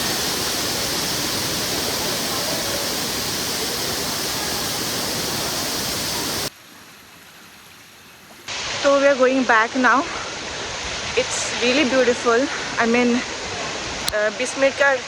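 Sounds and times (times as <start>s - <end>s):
waterfall rushing: 0.0s - 6.5s, 8.5s - 14.8s
faint hiss: 0.0s - 15.0s.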